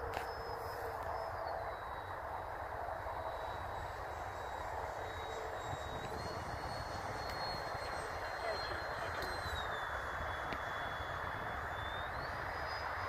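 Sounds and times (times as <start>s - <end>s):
electric ducted fan whine: 0.0s - 13.0s.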